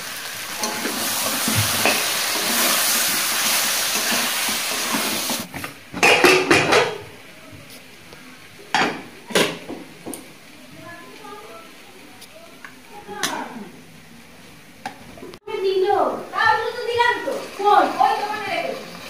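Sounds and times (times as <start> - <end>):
food sizzling in a pan: 0.0 - 14.8, 15.6 - 19.0.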